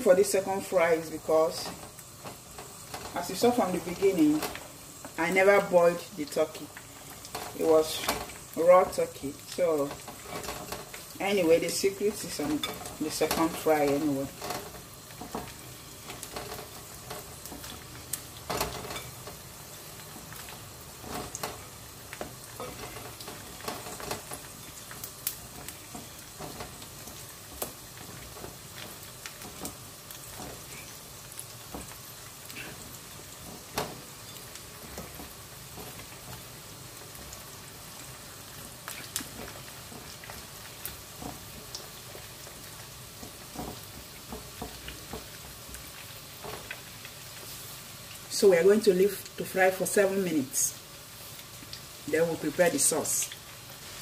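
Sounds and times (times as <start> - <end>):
meat frying in hot oil: 0.0 - 54.0.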